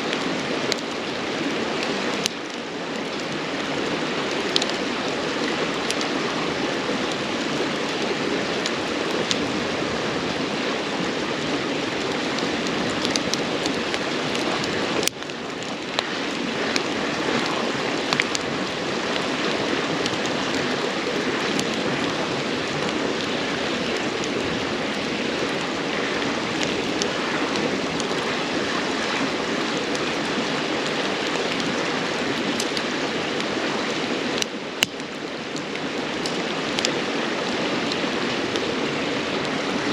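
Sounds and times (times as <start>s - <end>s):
firewood crackling and popping: 0.0s - 39.9s
river rushing: 0.0s - 39.9s.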